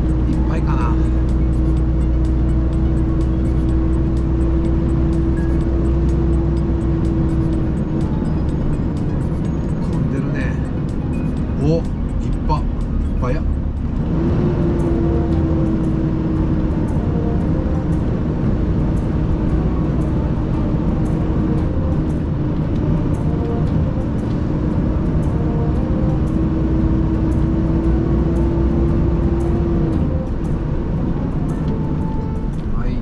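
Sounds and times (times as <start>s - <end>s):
truck engine and road rumble: 0.0s - 33.0s.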